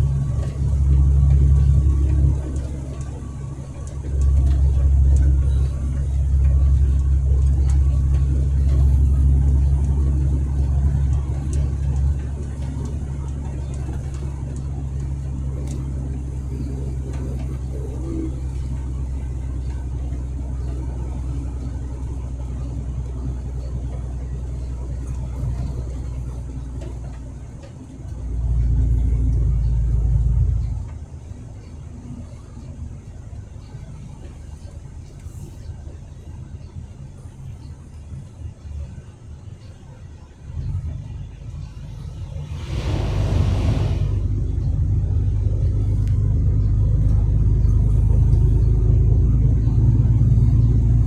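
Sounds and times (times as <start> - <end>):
truck engine and road noise: 0.0 - 51.0.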